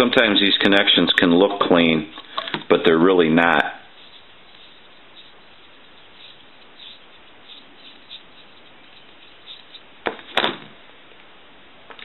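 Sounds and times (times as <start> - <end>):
steady hiss: 0.0 - 12.0
high squeaks and scratches: 0.3 - 10.0.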